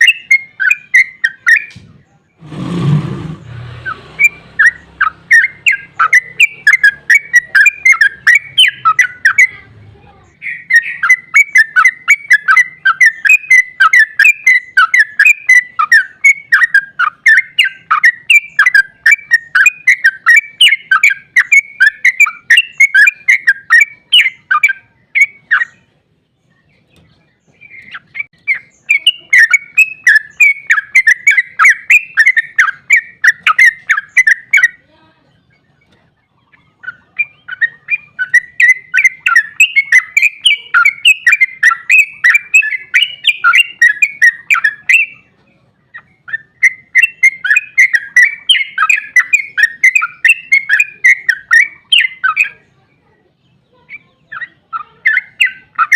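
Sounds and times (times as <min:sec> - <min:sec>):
bulbul chattering song: 0:00.0 - 0:55.9.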